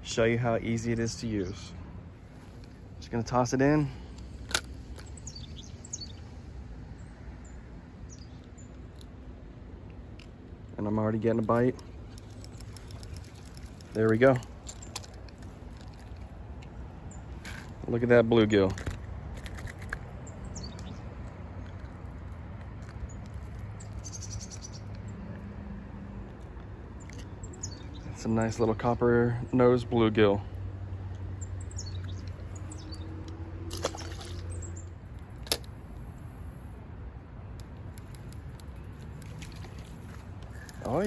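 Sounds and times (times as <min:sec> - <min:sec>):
birds chirping: 0:00.0 - 0:09.2, 0:09.9 - 0:18.8, 0:20.0 - 0:41.0.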